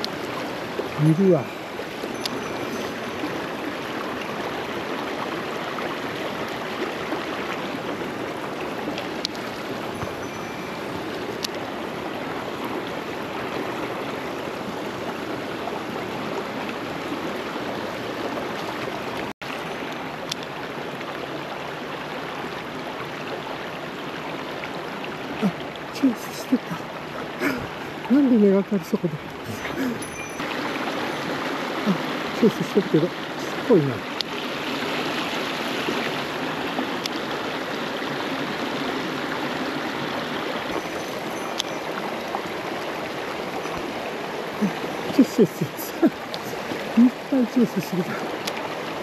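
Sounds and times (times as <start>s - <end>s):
stream rushing over rocks: 0.0s - 49.0s.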